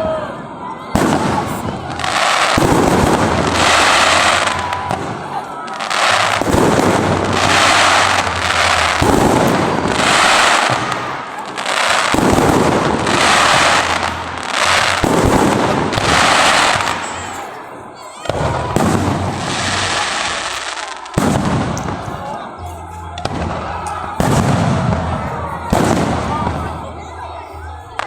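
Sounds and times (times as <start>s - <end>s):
firework bursts: 0.9s - 28.0s.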